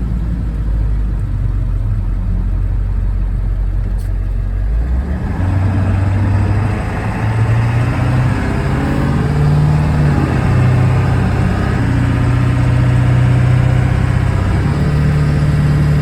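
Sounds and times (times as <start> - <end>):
diesel truck engine revving: 0.0 - 16.0.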